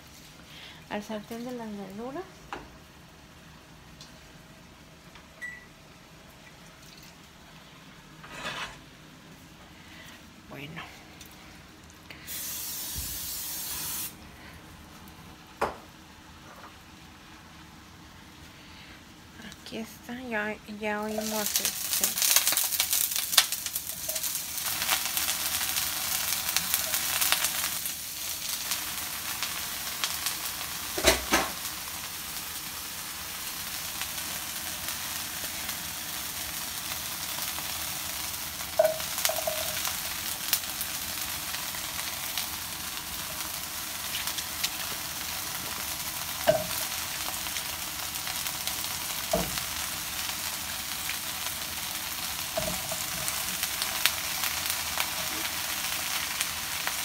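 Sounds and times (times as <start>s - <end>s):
vegetables sizzling in a pan: 0.0s - 5.1s, 5.9s - 57.0s.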